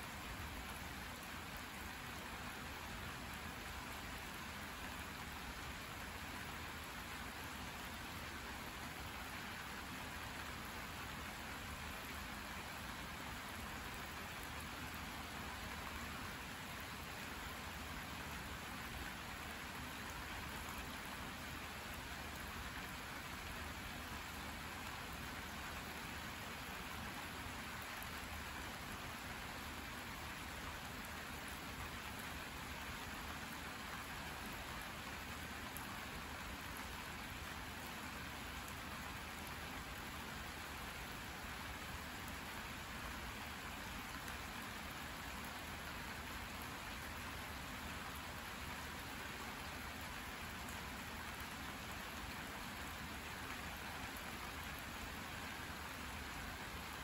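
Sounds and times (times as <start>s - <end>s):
rain on leaves and puddles: 0.0s - 57.0s.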